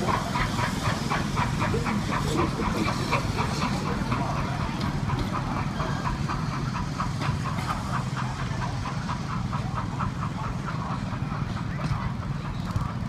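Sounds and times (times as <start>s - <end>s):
rapid clicking of wheels: 0.0s - 13.0s
train wheels rumbling on track: 0.0s - 13.0s.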